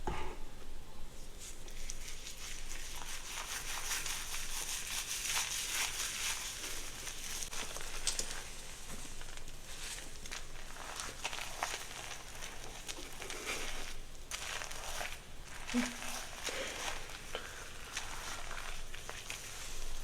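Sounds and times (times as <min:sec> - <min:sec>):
scratchy rustle of hair: 0:01.4 - 0:20.0.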